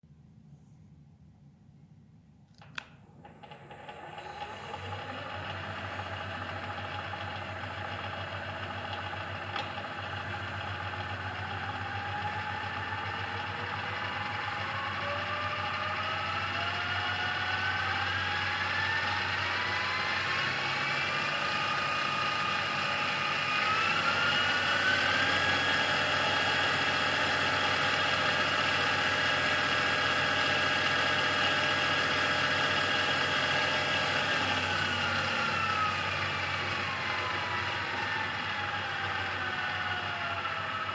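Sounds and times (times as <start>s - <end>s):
mechanical whine of belt drive: 2.6s - 40.9s.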